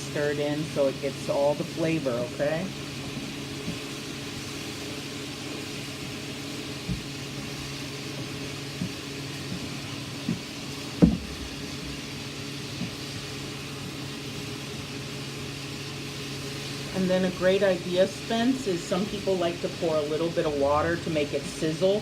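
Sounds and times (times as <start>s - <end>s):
chicken frying in a pan: 0.0s - 22.0s
steady hum and hiss: 0.0s - 22.0s.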